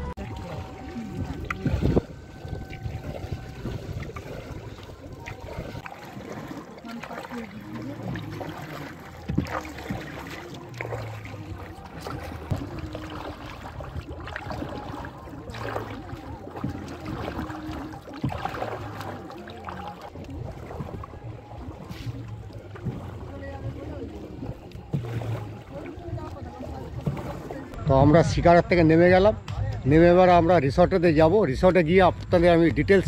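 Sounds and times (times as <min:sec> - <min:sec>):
paddles splashing in water: 0:00.0 - 0:28.4.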